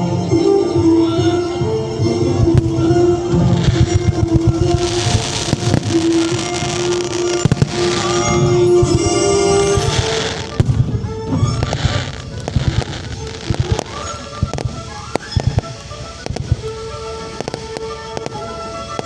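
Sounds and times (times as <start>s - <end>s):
fireworks booming and crackling: 0.0s - 19.0s
music with sustained notes: 0.0s - 19.0s.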